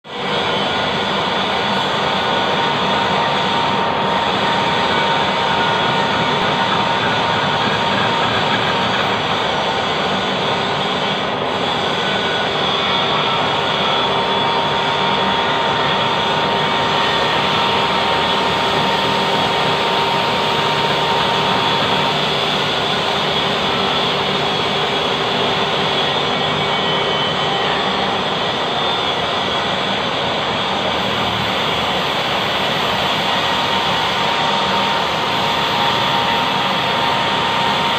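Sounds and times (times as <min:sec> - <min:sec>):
faint machine whine: 0:00.1 - 0:37.9
lathe running: 0:00.1 - 0:37.9.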